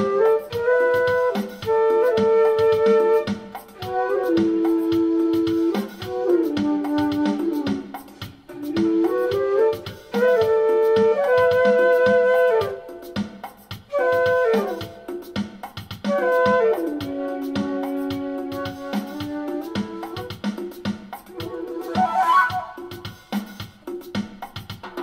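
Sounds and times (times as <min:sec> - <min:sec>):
flute melody with reverb: 0:00.0 - 0:23.7
steady beat: 0:00.0 - 0:25.0.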